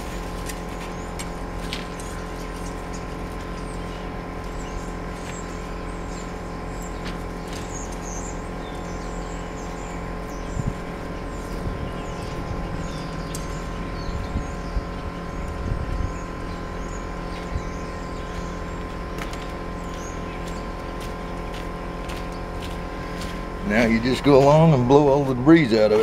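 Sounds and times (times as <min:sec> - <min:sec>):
birds chirping: 0:00.0 - 0:26.0
steady mechanical hum: 0:00.0 - 0:26.0.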